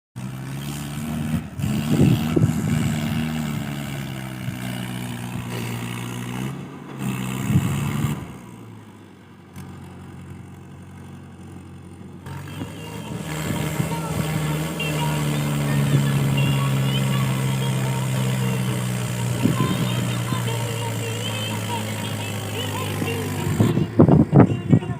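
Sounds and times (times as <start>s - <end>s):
tractor engine running: 0.2s - 24.9s.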